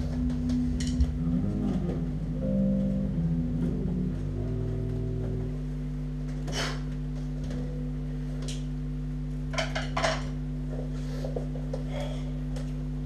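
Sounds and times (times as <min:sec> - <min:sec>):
amplifier electrical hum: 0:00.0 - 0:13.0.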